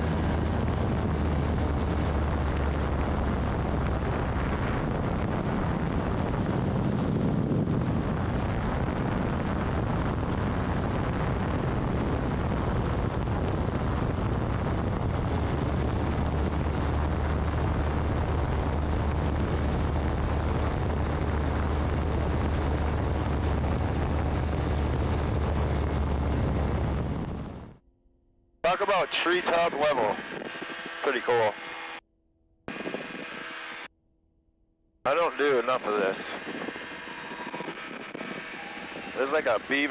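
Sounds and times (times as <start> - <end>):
wind rushing over microphone: 0.0 - 27.8, 28.6 - 32.0, 32.7 - 33.9, 35.1 - 39.9
ultralight engine and propeller droning: 0.0 - 34.0, 35.1 - 39.9.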